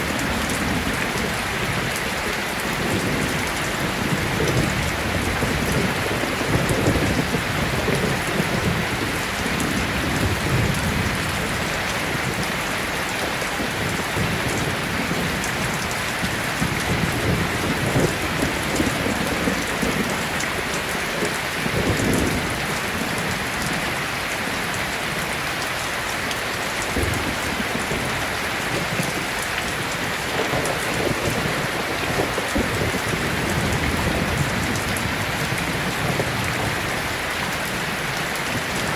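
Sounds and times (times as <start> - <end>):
thunder rumbling: 0.0 - 24.0, 26.8 - 38.9
heavy rain pattering: 0.0 - 38.9.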